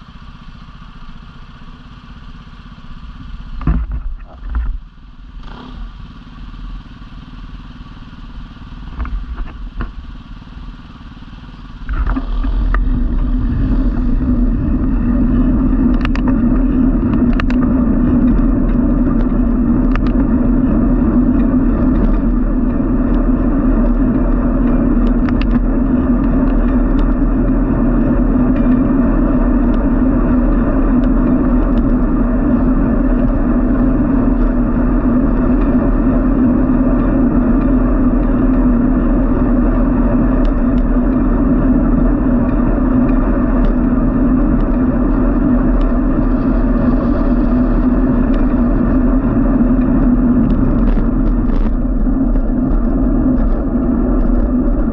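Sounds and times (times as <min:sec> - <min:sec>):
vehicle driving along street: 0:00.0 - 0:54.9.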